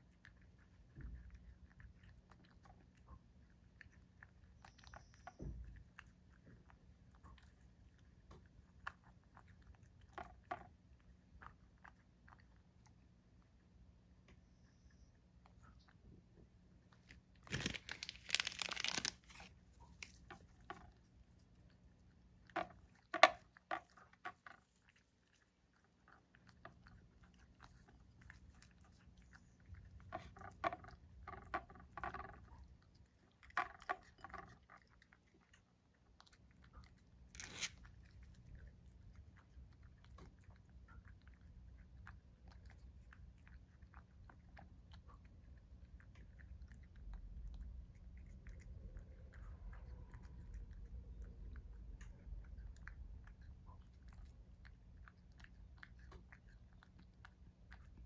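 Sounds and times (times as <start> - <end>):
cat crunching food: 0.0 - 58.0.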